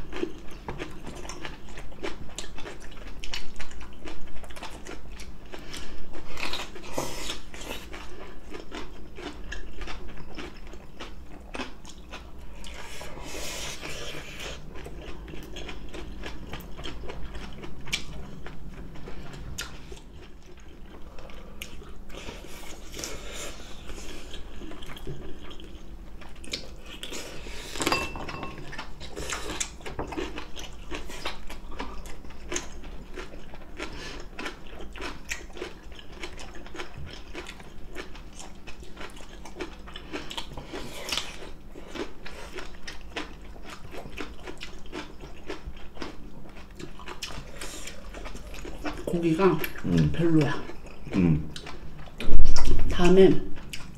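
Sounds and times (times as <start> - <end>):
chewing: 0.0 - 52.8, 53.5 - 53.9.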